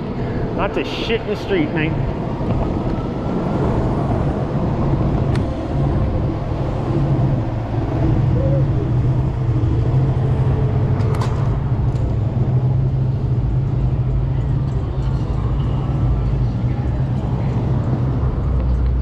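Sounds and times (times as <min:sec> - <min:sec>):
road and wind noise: 0:00.0 - 0:19.0
vehicle hum: 0:00.0 - 0:19.0.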